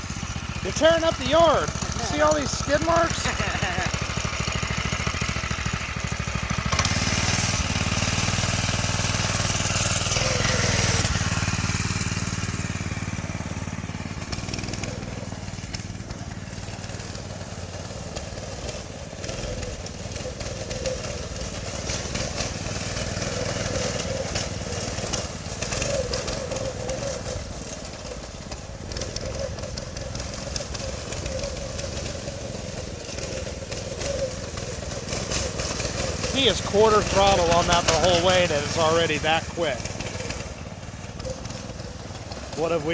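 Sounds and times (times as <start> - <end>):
go-kart engine running: 0.0 - 42.9.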